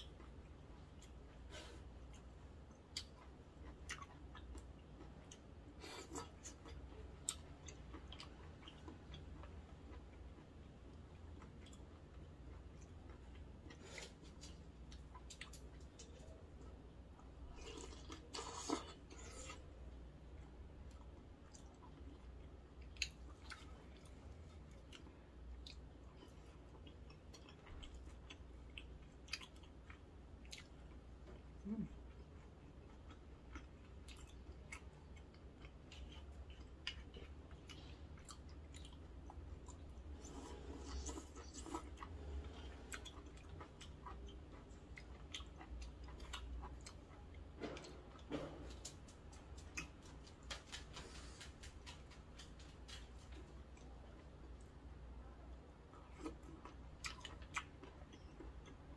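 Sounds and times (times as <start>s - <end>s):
person chewing food: 0.0s - 58.9s.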